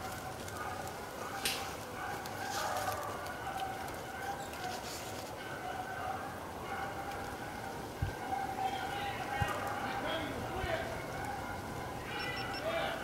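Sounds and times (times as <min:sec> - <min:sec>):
distant dogs baying: 0:00.0 - 0:13.0.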